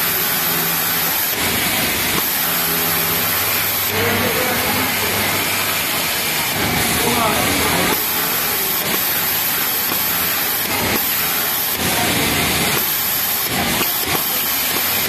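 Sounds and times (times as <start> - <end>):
overlock sewing machine running: 0.0 - 15.0.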